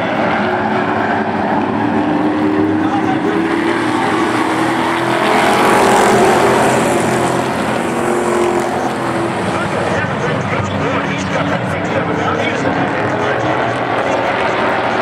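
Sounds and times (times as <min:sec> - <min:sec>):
race truck engines running hard: 0:00.0 - 0:15.0.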